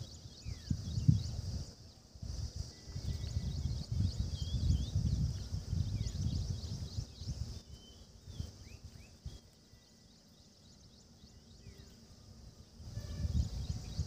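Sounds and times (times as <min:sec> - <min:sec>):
birds chirping: 0:00.0 - 0:14.0
wind rumbling on microphone: 0:00.0 - 0:14.0.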